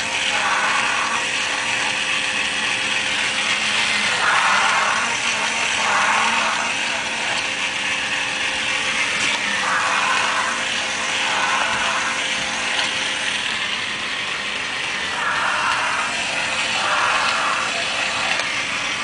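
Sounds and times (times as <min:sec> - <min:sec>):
toy motor and gearbox running: 0:00.0 - 0:19.0.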